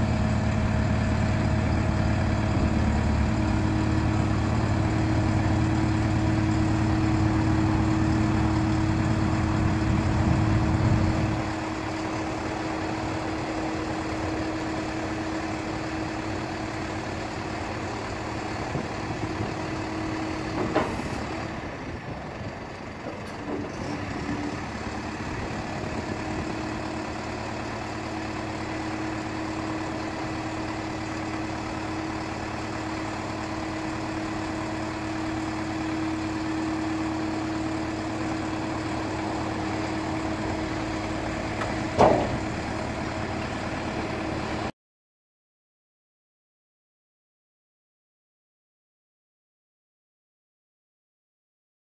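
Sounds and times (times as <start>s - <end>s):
truck engine hum: 0.0s - 44.7s.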